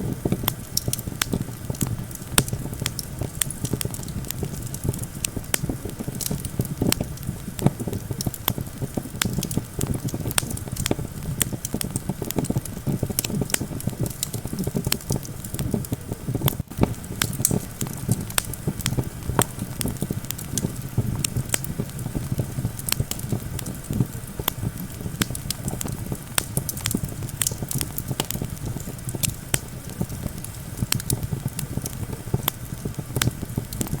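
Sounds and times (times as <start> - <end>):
campfire crackling and popping: 0.0 - 34.0
low rumble of wind: 0.0 - 34.0.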